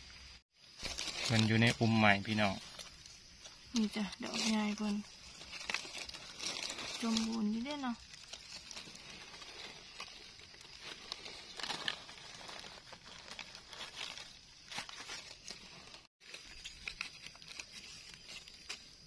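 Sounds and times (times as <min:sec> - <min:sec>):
leaves crackling: 0:00.5 - 0:19.0.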